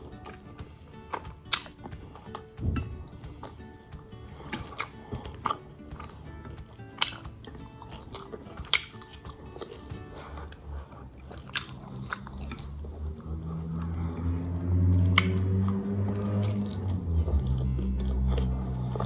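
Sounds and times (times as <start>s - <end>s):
background music: 0.0s - 19.0s
chewing and biting noodles: 0.0s - 19.0s.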